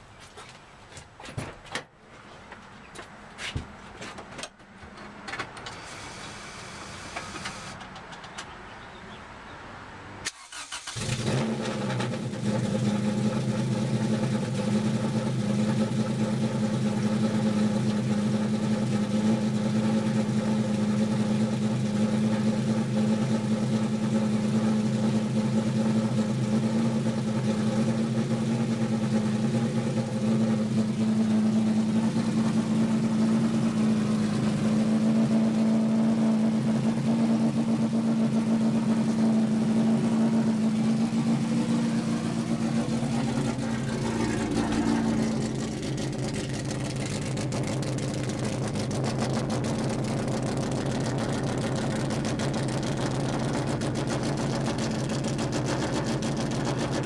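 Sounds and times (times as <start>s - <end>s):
car engine starting and idling: 5.4s - 8.5s, 10.2s - 57.0s.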